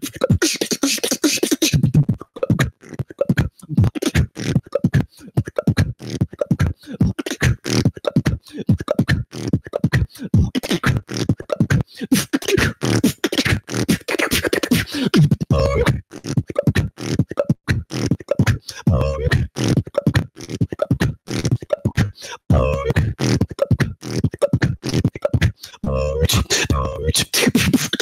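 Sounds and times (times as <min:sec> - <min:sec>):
beatboxing into a microphone: 0:00.0 - 0:28.0.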